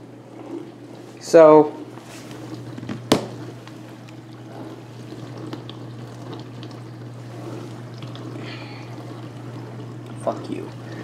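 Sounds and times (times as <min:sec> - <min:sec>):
dishwasher low hum: 0:00.0 - 0:11.0
water splashing inside dishwasher: 0:00.0 - 0:11.0.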